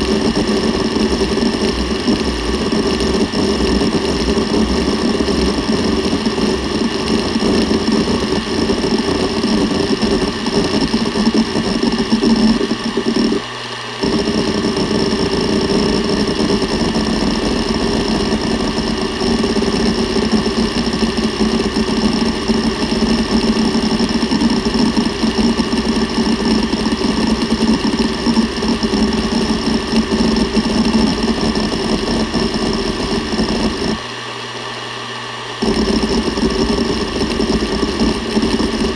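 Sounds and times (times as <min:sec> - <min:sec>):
spinning platters hum: 0:00.0 - 0:34.1, 0:35.6 - 0:38.9
hard drive seeking chatter: 0:00.0 - 0:38.9.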